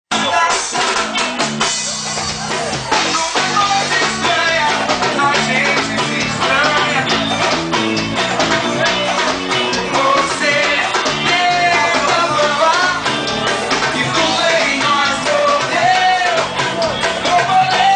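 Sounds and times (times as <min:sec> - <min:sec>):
band playing upbeat music: 0:00.1 - 0:17.9.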